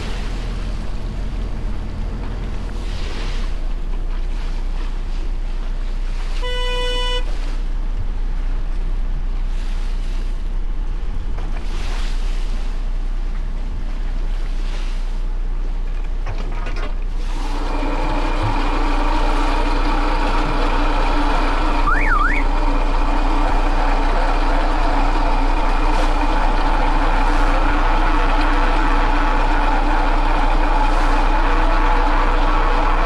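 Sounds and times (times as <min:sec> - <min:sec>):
water noise: 0:00.0 - 0:16.2, 0:17.0 - 0:33.0
boat engine running: 0:00.0 - 0:33.0
wind: 0:00.0 - 0:33.0.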